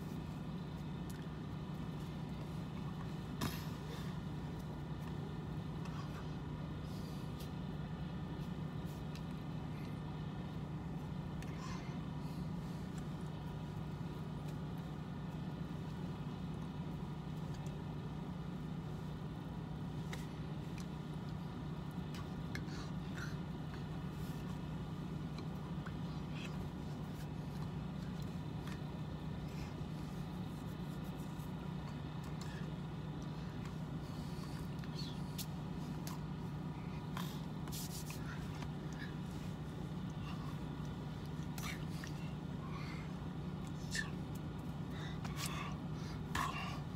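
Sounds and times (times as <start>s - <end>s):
vehicle engine hum: 0.0s - 46.9s.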